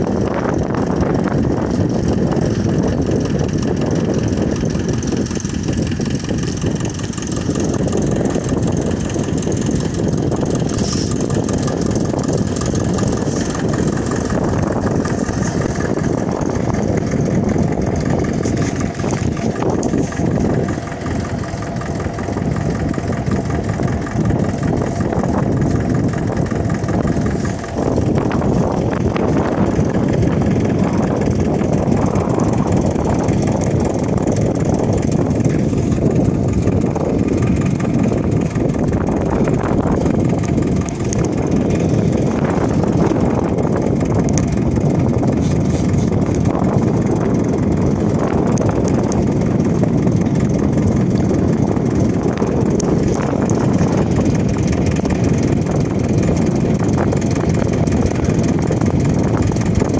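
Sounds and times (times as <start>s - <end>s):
air rushing around glider: 0.0s - 59.9s.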